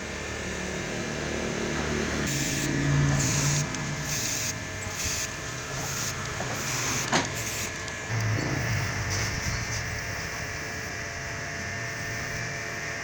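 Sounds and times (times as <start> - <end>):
pulsing hiss: 2.2 - 13.0.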